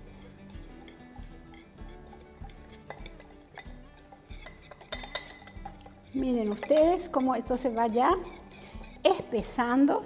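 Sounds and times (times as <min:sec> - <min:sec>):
whisk clinking on glass bowl: 0:00.0 - 0:09.6
metal whisk stirring batter: 0:00.0 - 0:09.9
soft background music: 0:00.0 - 0:10.0.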